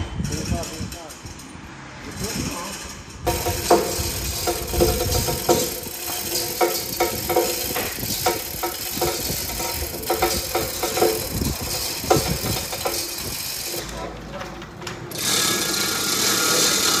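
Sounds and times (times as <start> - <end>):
metal rigging clanking: 0.3 - 17.0
chain rattling: 2.6 - 17.0.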